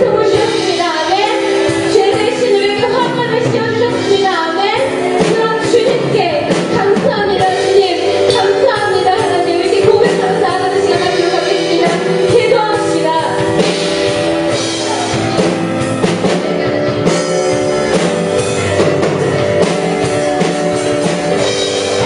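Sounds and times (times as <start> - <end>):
held keyboard chords: 0.0 - 22.0.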